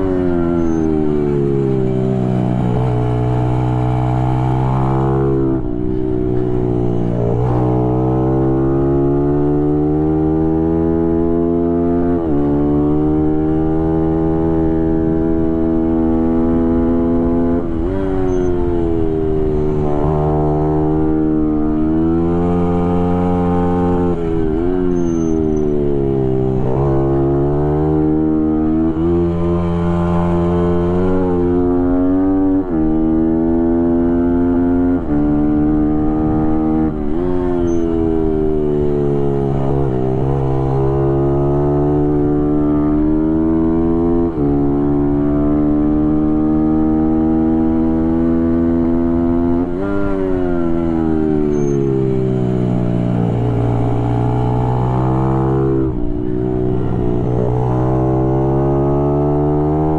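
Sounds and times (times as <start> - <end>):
motorcycle engine at full throttle: 0.0 - 59.9.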